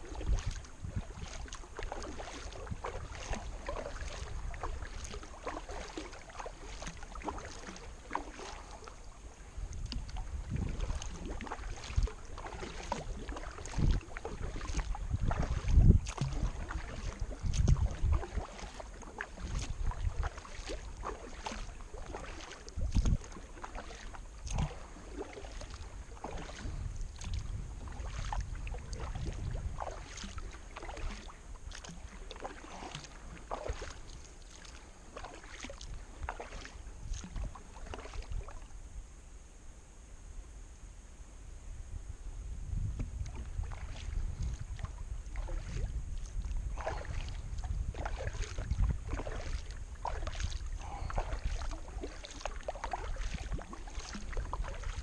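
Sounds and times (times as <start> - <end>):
paddle splashing in water: 0.0 - 38.8, 42.9 - 55.0.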